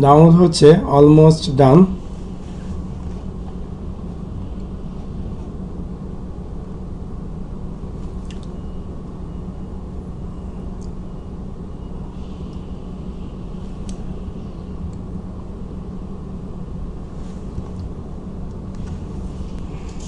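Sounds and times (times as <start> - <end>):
low room hum and rumble: 0.0 - 20.0.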